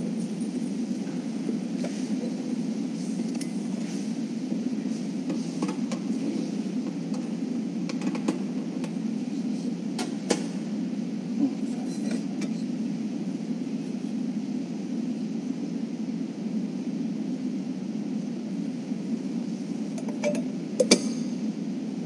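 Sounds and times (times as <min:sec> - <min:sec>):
low room rumble: 0:00.0 - 0:22.0.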